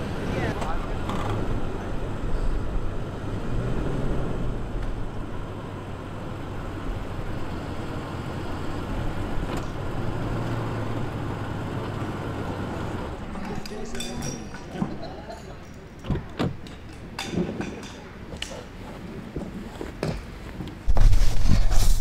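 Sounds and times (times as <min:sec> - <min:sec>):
road noise: 0:00.0 - 0:22.0
vehicle engine rumble: 0:00.0 - 0:22.0.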